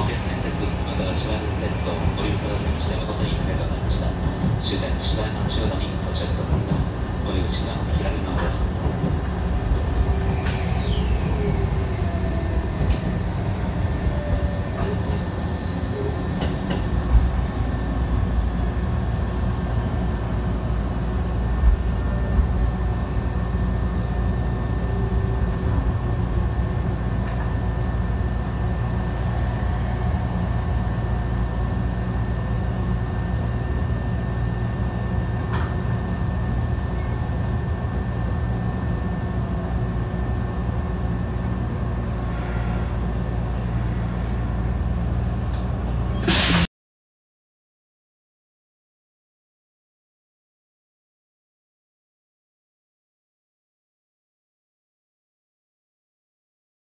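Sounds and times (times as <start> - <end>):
train wheels rumbling: 0.0 - 46.6.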